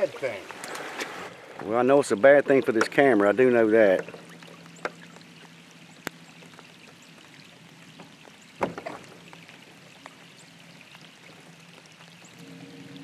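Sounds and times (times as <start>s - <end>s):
light rain pattering on water: 0.0s - 13.0s.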